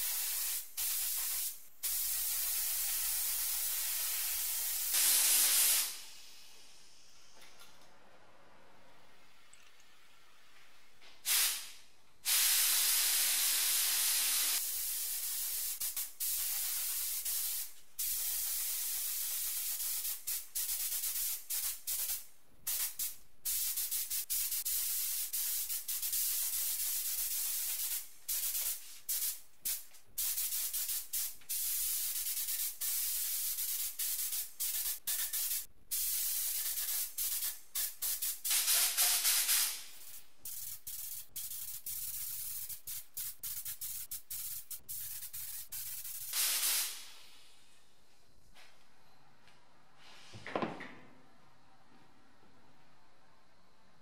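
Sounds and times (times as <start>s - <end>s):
spray gun air hiss: 0.0s - 6.9s, 11.2s - 47.6s.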